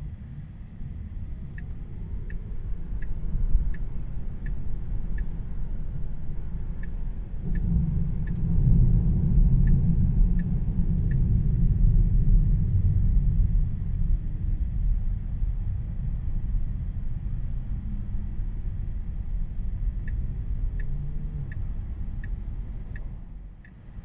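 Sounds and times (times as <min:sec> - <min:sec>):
road and tyre rumble: 0:00.0 - 0:24.0
turn signal ticking: 0:00.3 - 0:14.0, 0:14.6 - 0:24.0.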